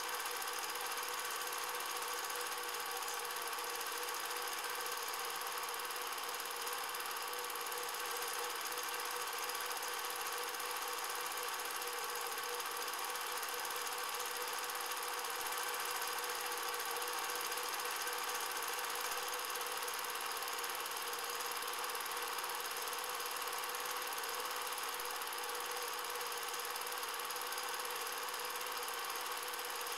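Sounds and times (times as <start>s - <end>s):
film projector whirring: 0.0s - 29.9s.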